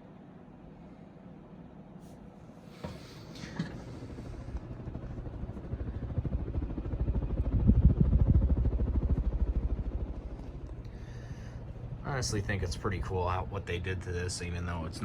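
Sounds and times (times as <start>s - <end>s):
fan air buffeting microphone: 0.6s - 15.0s.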